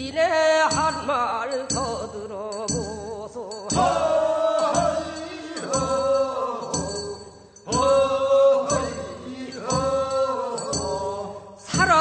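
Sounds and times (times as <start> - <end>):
metal hand bell struck: 0.7 - 11.2
men singing: 0.7 - 12.0.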